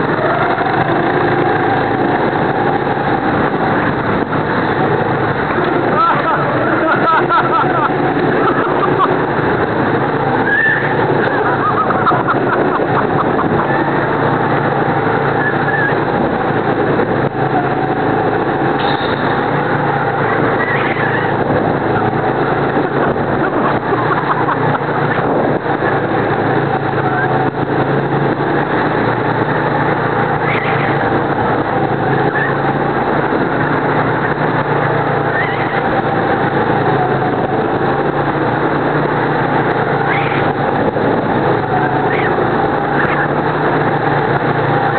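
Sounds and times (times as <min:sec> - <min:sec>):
go-kart engine droning: 0:00.0 - 0:44.9.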